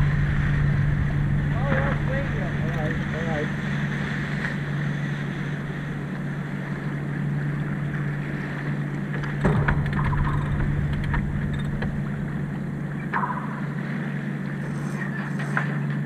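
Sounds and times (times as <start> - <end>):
low hum: 0.0 - 16.0
water and wind wash: 0.0 - 16.0.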